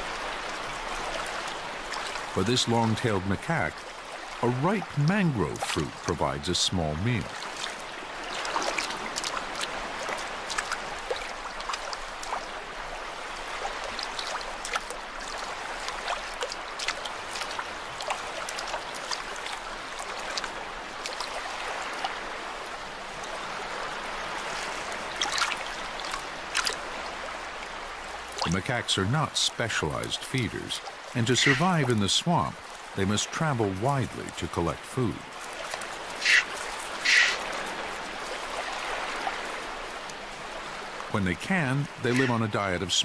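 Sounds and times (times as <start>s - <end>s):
water trickling over mud: 0.0s - 43.0s.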